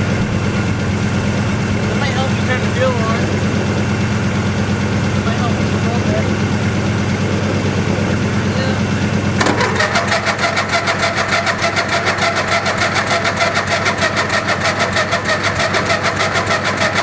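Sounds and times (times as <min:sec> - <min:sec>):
engine starter cranking: 0:00.0 - 0:17.0
low engine hum: 0:00.0 - 0:17.0.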